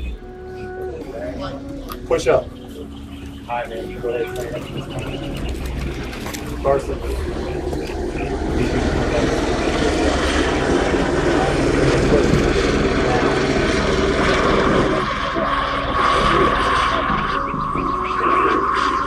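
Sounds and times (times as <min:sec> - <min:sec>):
aircraft engine droning overhead: 0:00.0 - 0:19.0.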